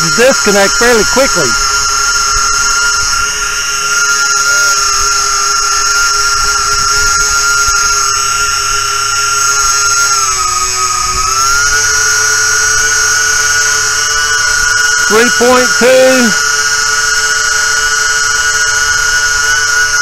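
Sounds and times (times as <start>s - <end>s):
electric motors and propellers whining: 0.0s - 20.0s.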